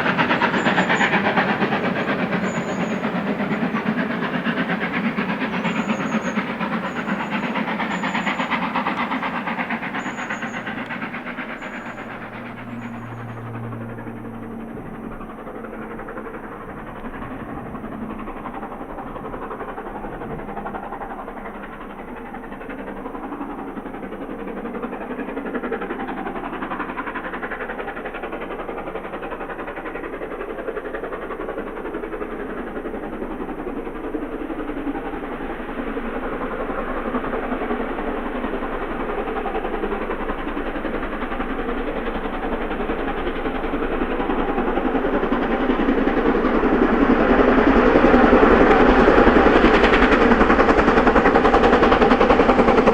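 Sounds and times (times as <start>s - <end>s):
steam hiss: 0.0s - 13.8s, 18.2s - 52.9s
steam locomotive exhaust beats: 0.0s - 52.9s.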